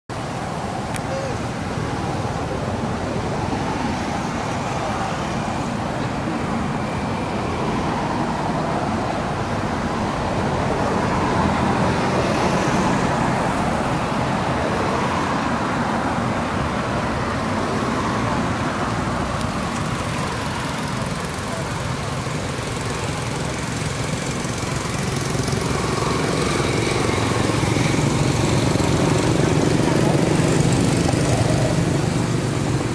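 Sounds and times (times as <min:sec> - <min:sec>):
motor vehicle engines running: 0:00.1 - 0:32.9.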